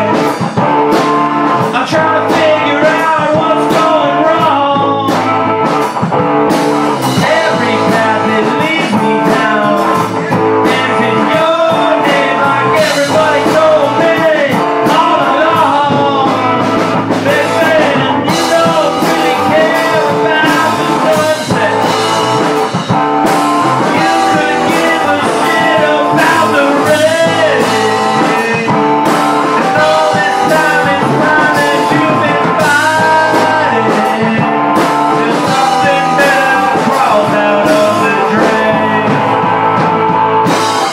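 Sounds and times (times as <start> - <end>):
bass: 0.0 - 40.9
drum kit with cymbals: 0.0 - 40.9
electric guitar bending lines: 0.0 - 40.9.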